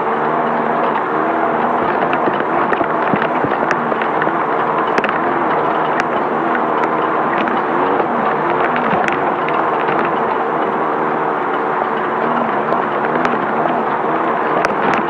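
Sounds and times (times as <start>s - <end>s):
car engine running hard: 0.0s - 15.0s
car rattling on rough ground: 0.0s - 15.0s
sharp knocks and clicks: 0.3s - 15.0s.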